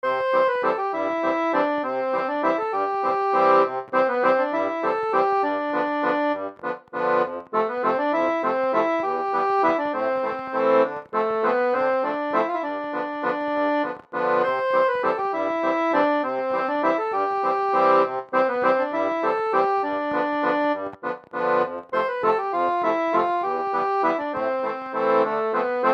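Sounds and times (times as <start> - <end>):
instrumental music melody over chords: 0.0 - 25.9.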